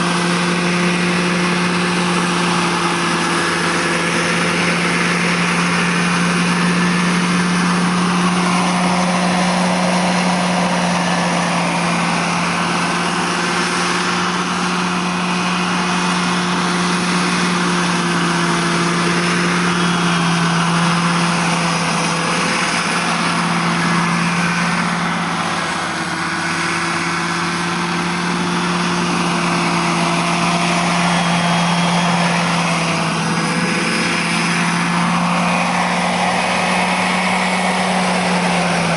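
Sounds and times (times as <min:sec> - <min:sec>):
model helicopter hum and whine: 0:00.0 - 0:38.9.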